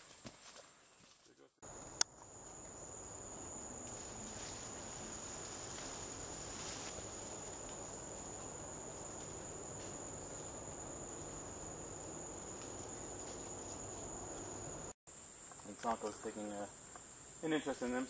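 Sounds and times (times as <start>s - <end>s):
faint forest background hiss: 0.0s - 18.0s
insect high-pitched whine: 1.6s - 18.0s.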